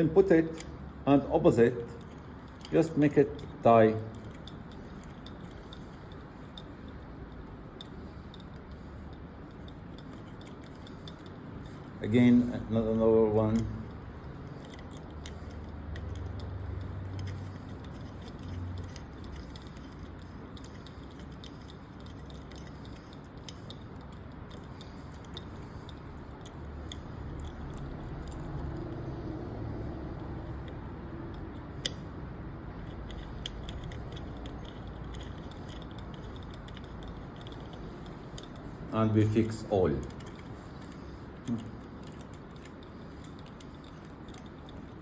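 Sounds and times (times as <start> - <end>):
low steady hum: 0.0 - 45.0
small metal parts clinking: 0.0 - 45.0.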